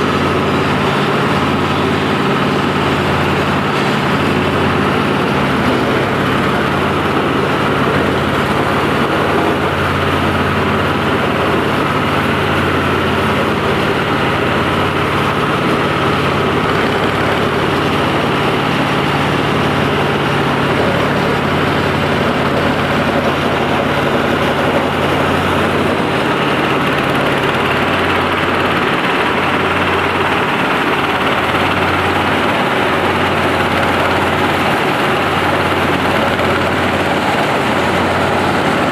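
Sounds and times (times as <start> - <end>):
thresher machine running: 0.0 - 38.9.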